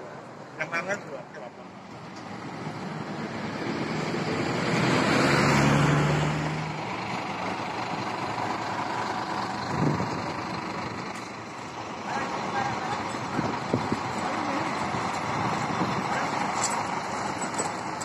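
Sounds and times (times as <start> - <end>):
road traffic noise: 0.0 - 18.0
large vehicle engine running: 1.6 - 18.0.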